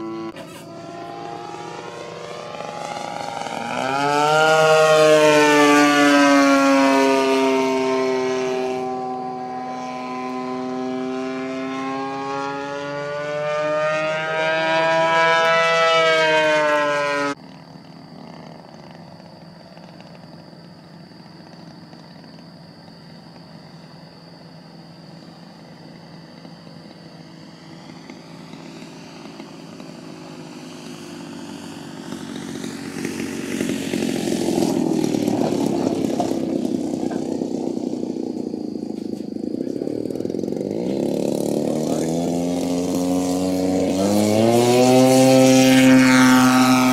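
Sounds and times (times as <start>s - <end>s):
model plane engine: 0.0s - 46.9s.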